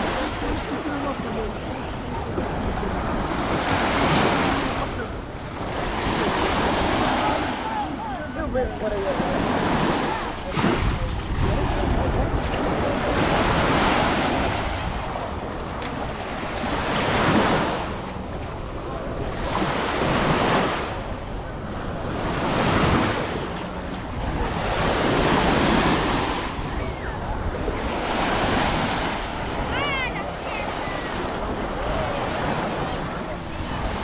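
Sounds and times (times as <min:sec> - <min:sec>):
small waves breaking on sand: 0:00.0 - 0:34.0
wind buffeting microphone: 0:00.0 - 0:34.0.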